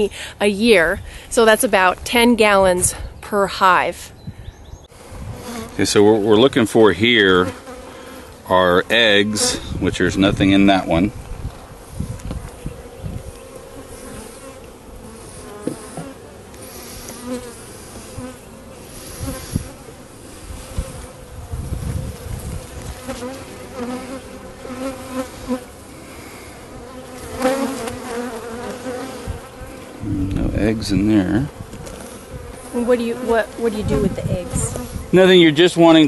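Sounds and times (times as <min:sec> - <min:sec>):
bees buzzing: 0:04.8 - 0:36.0.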